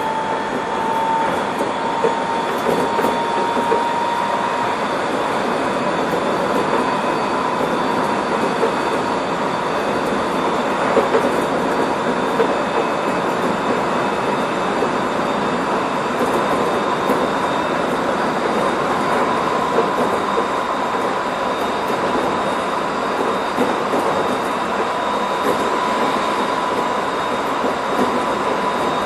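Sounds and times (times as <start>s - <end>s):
train motor whine: 0.0s - 29.0s
train wheels rolling on rails: 0.0s - 29.0s.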